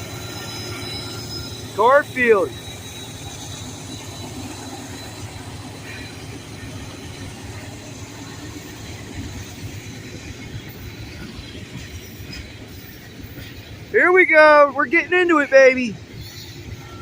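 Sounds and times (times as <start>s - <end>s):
freight train rumbling: 0.0s - 17.0s
high wheel squeal: 0.0s - 17.0s.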